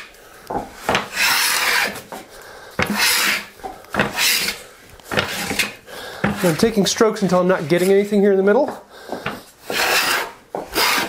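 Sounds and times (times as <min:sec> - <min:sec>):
hand plane shaving wood: 0:00.0 - 0:06.9, 0:07.6 - 0:11.0.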